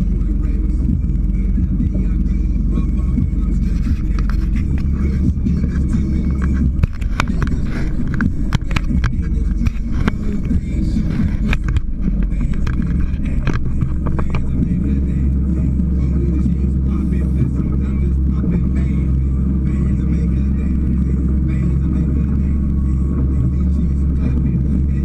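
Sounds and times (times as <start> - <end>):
powerboat engine running: 0.0 - 25.0.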